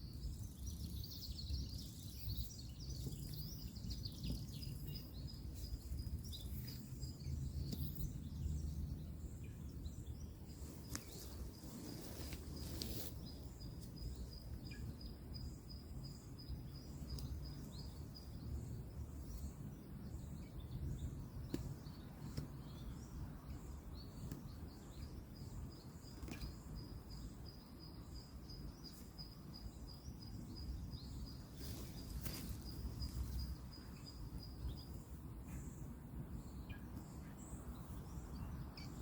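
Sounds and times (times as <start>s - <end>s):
bird chirps: 0.0s - 39.0s.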